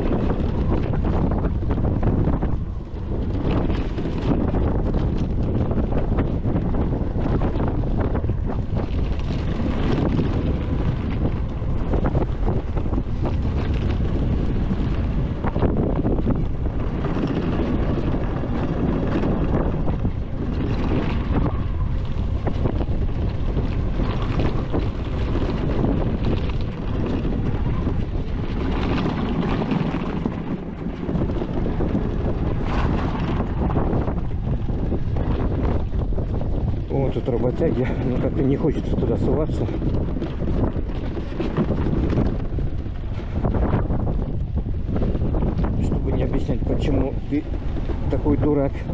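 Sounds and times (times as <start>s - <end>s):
quad rumbling over rough ground: 0.0s - 48.9s
wind buffeting microphone: 0.0s - 48.9s.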